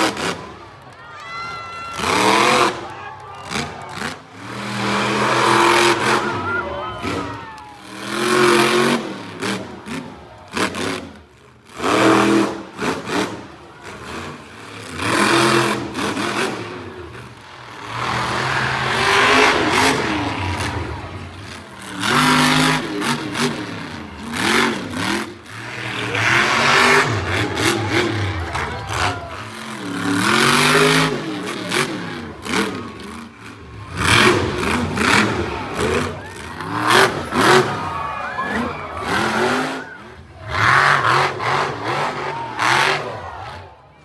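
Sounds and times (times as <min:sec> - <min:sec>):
truck engine revving hard: 0:00.0 - 0:00.8, 0:01.9 - 0:43.9.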